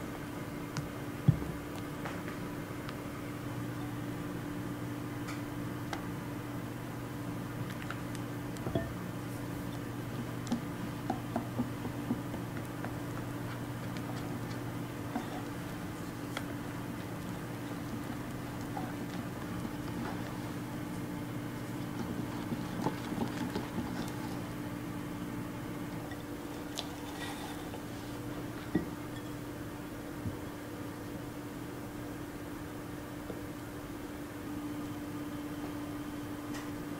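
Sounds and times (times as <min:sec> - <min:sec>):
low machine hum: 0:00.0 - 0:36.9.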